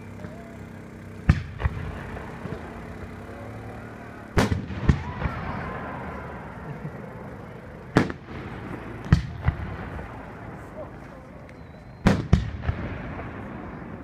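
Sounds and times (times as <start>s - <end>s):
fireworks bangs: 1.2s - 14.0s.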